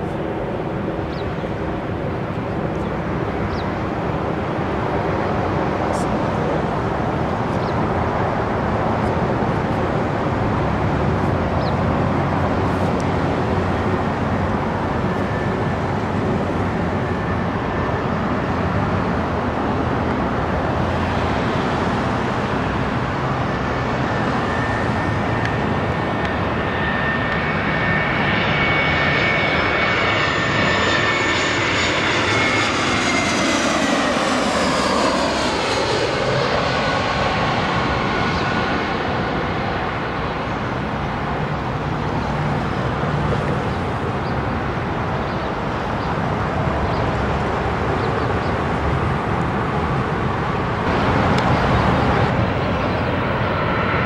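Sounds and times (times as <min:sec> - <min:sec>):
airliner engine noise: 0:00.0 - 0:54.0
jet whine: 0:00.0 - 0:54.0.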